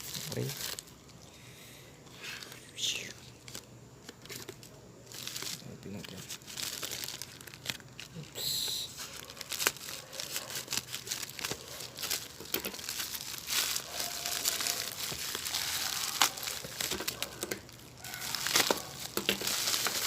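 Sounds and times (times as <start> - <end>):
packaging crinkling and tearing: 0.0 - 1.2, 2.4 - 20.0.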